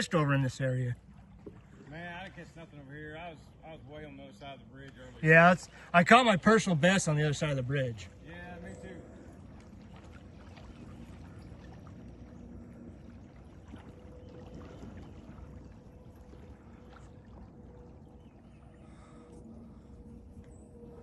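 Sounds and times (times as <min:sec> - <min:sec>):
faint steady hum: 0:00.0 - 0:21.0
water lapping and splashing: 0:00.0 - 0:21.0.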